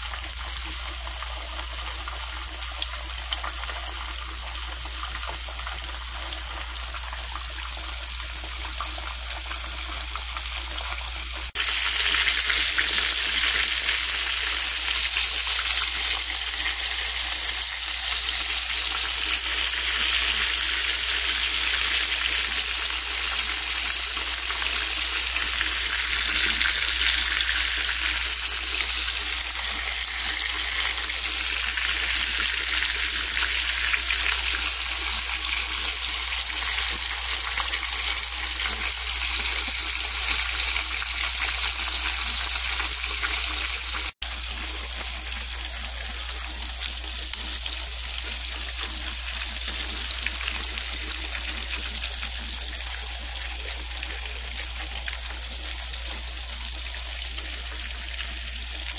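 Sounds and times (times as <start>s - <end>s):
hot oil sizzling in a pan: 0.0s - 58.9s.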